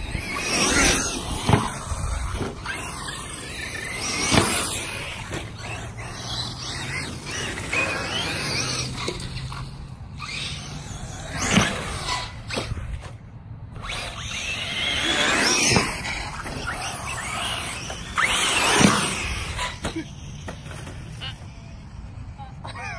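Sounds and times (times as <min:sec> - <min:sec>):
rc cars thudding on ramp: 0:00.0 - 0:21.9
electric rc car motors whining: 0:00.0 - 0:22.9.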